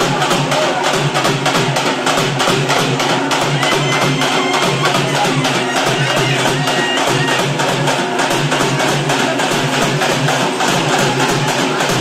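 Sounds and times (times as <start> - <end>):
frame drums beaten fast: 0.0 - 12.0.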